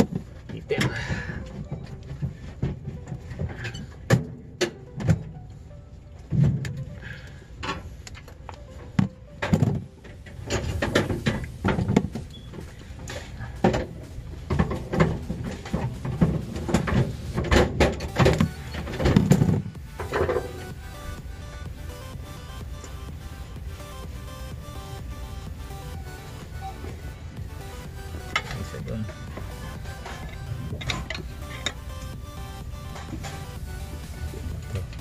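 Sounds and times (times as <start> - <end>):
background music: 0.0 - 35.0.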